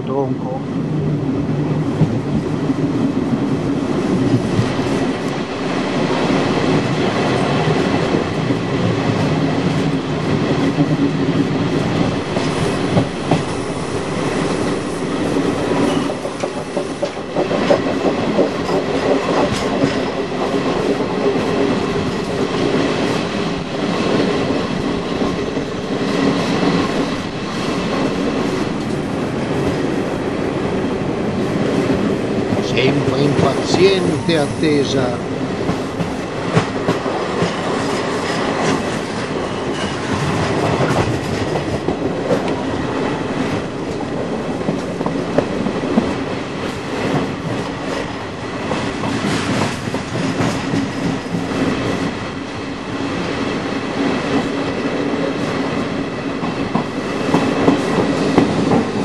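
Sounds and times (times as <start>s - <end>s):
train rolling rumble: 0.0s - 59.0s.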